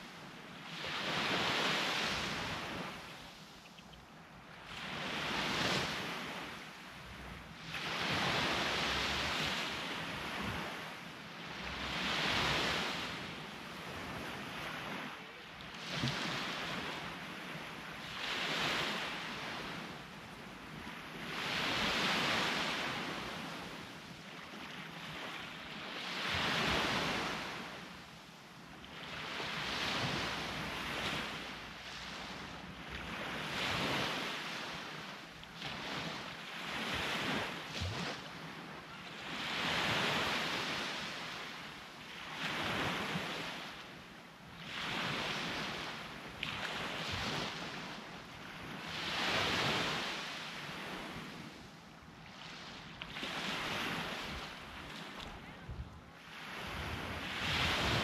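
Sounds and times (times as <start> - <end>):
sea waves breaking on beach: 0.0 - 3.7, 4.3 - 55.6, 56.2 - 58.0.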